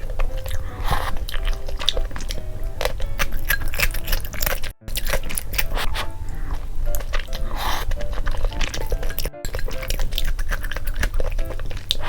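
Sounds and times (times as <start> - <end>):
soft background music: 0.0 - 12.0
wet chewing and smacking: 0.0 - 12.0.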